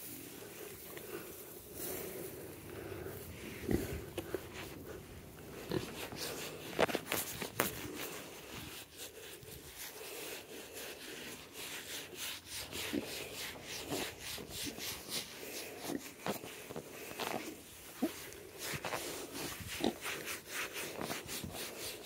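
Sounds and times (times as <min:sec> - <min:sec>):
glove scratching bristly pig coat: 0:00.0 - 0:22.0.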